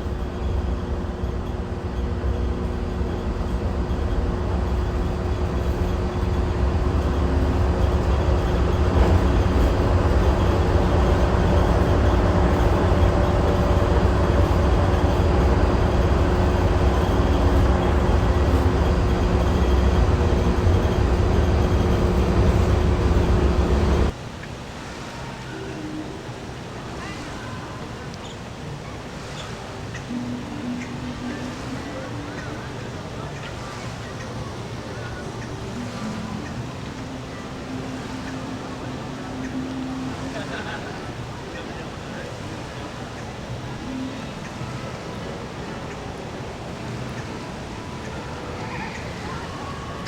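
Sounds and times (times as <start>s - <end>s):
faint steady hum: 0.0s - 50.0s
monorail train rumble: 0.0s - 50.0s.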